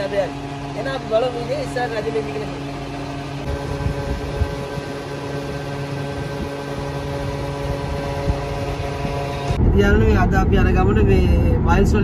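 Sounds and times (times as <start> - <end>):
petrol pump humming: 0.0 - 11.9.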